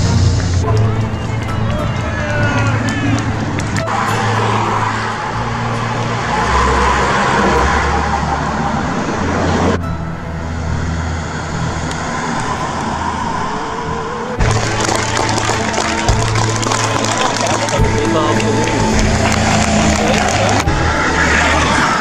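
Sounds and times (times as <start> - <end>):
tyres hissing on asphalt: 0.0 - 9.8, 10.4 - 22.0
road traffic rumble: 0.0 - 22.0.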